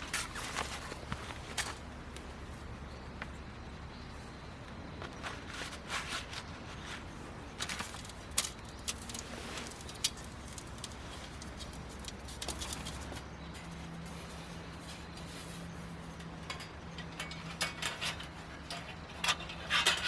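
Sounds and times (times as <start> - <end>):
light clicks and rustles: 0.0 - 3.4, 4.6 - 20.0.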